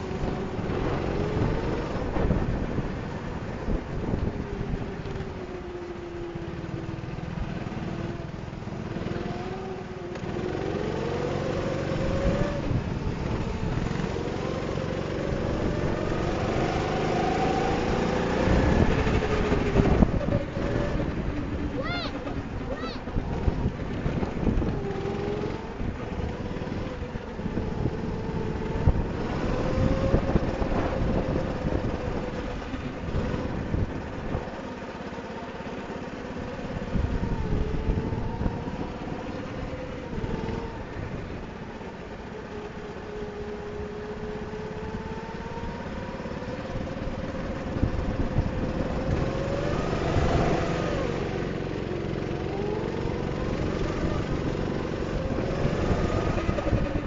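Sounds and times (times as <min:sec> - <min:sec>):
go-kart engine: 0:00.0 - 0:57.0.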